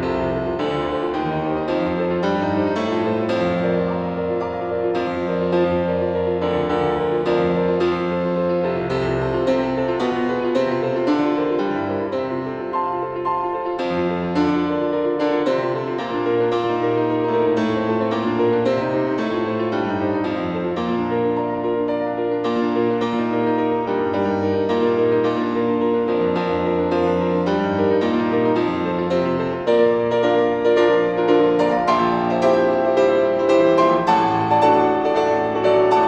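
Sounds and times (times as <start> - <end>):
solo piano playing: 0.0 - 36.0.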